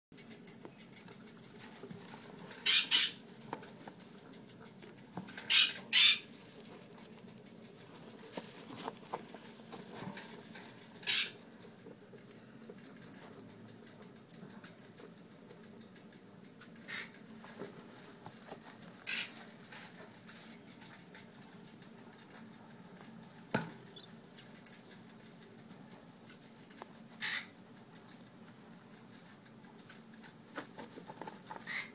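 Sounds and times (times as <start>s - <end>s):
rat pups squeaking: 0.2s - 31.9s.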